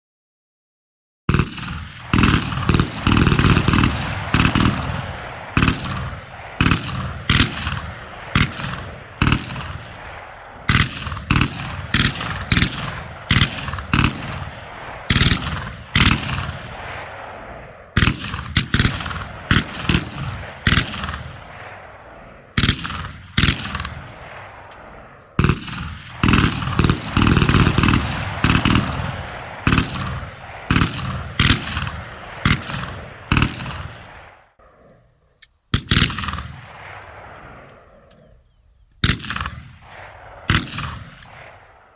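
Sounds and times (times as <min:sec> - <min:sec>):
machine-gun fire: 0:01.3 - 0:34.3, 0:39.0 - 0:41.9
single gunshots: 0:01.3 - 0:34.5, 0:35.7 - 0:38.3, 0:39.0 - 0:41.9.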